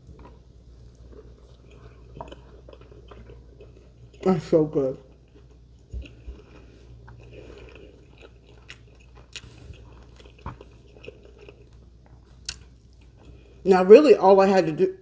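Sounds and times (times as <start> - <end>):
person chewing food: 0.0 - 13.6.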